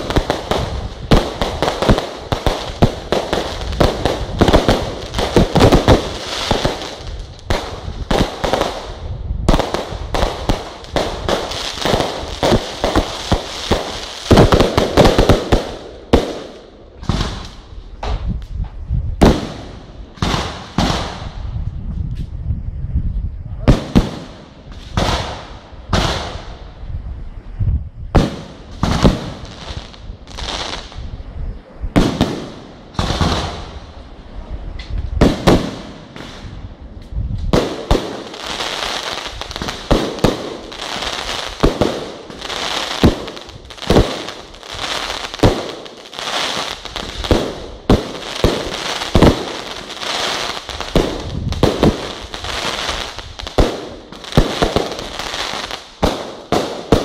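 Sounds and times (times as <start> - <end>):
continuous firework crackle: 0.0 - 21.6, 23.6 - 26.8, 28.1 - 31.3, 31.9 - 57.0.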